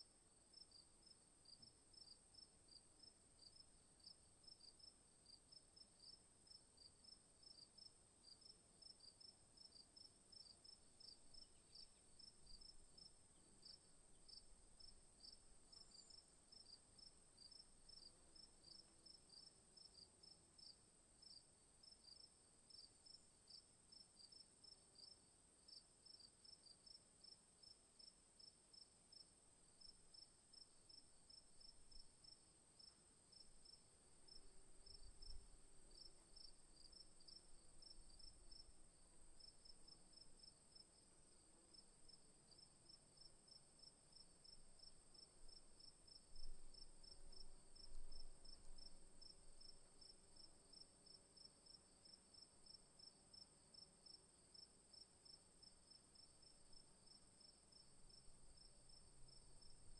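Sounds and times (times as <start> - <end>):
crickets chirping: 6.0 - 27.4, 28.0 - 59.9.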